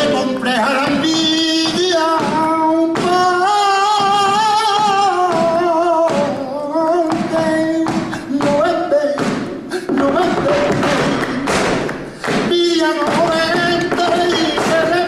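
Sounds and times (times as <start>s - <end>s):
sharp percussive hits: 0.0s - 6.5s, 7.1s - 15.0s
man singing flamenco: 0.0s - 15.0s.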